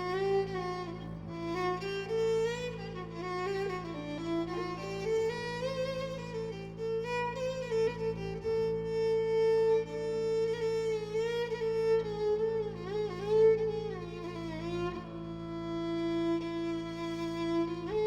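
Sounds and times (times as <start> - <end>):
low sustained accompaniment: 0.0 - 18.0
violin melody with vibrato: 0.0 - 18.0.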